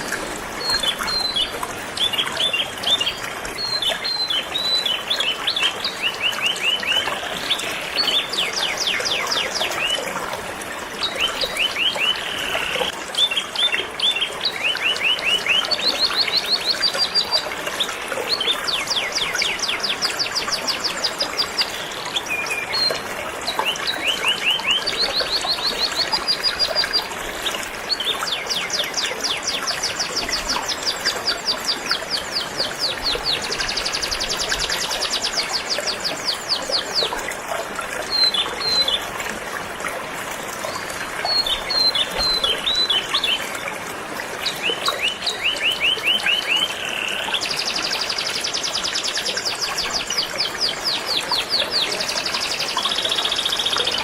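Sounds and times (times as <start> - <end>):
flowing river water: 0.0 - 54.0.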